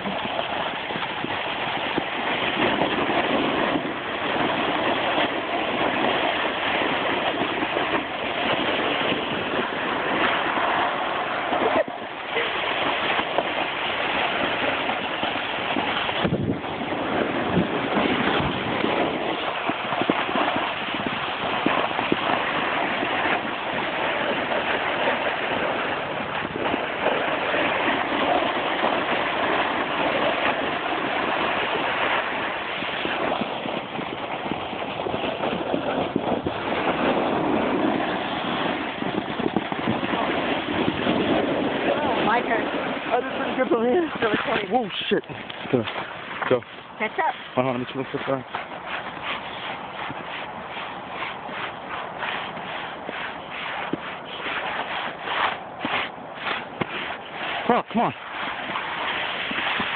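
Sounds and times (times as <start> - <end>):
scrape of sliding on snow: 0.0 - 59.9
wind rushing over microphone: 0.0 - 59.9.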